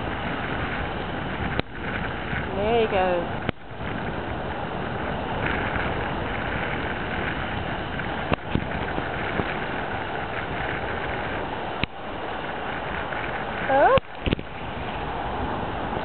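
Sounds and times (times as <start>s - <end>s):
surf at shoreline: 0.0s - 16.0s
wind buffeting microphone: 0.0s - 16.0s.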